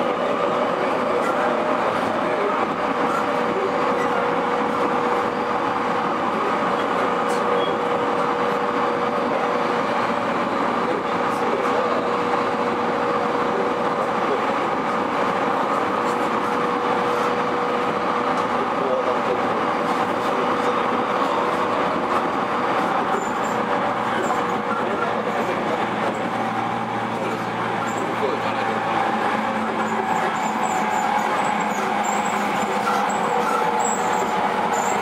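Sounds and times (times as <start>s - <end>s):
train rolling noise: 0.0s - 35.0s.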